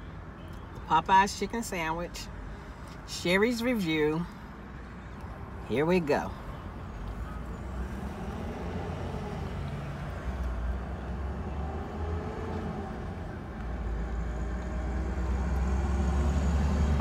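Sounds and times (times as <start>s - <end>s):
road noise inside car: 0.0s - 17.0s
car engine rumble: 1.8s - 17.0s.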